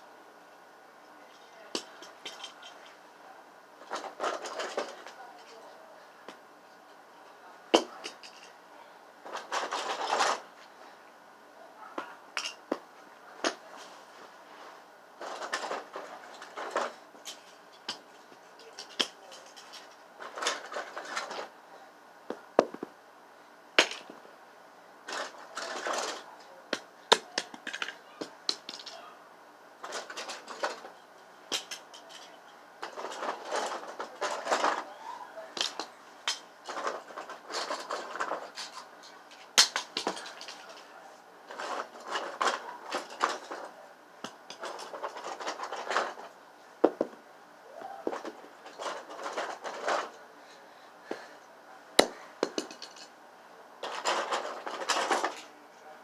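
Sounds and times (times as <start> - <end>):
hard objects being handled: 1.1 - 3.2, 3.8 - 10.8, 11.8 - 21.6, 22.2 - 23.0, 23.8 - 24.4, 25.0 - 29.1, 29.8 - 50.3, 50.9 - 55.6.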